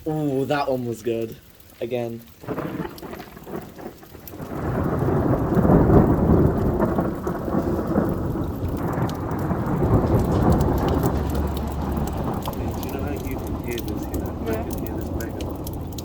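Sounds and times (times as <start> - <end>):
steady rain falling: 0.0 - 16.0
rolling thunder: 2.4 - 16.0.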